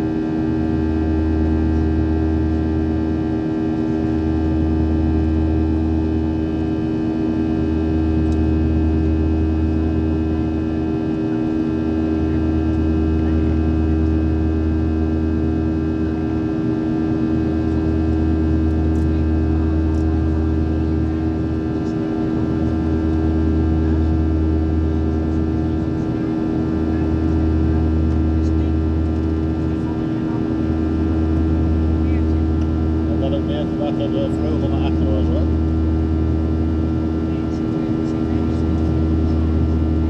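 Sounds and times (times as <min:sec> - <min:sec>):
jet engines droning in cabin: 0:00.0 - 0:40.0.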